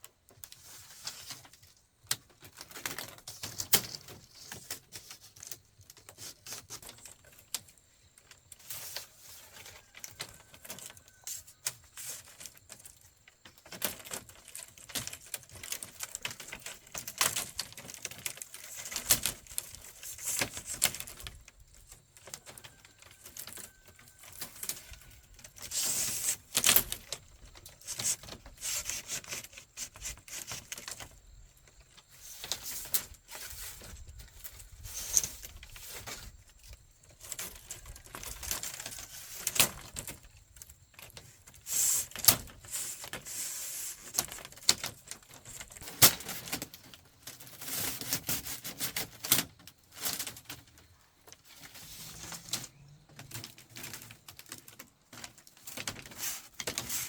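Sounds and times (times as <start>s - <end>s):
bamboo scraping: 0.2s - 57.0s.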